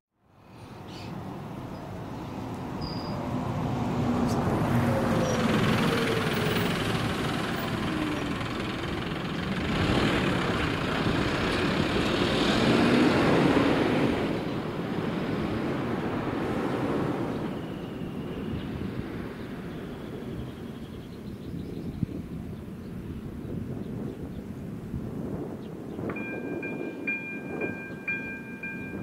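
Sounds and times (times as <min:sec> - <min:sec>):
bus driving past: 0:00.3 - 0:21.6, 0:26.0 - 0:29.0.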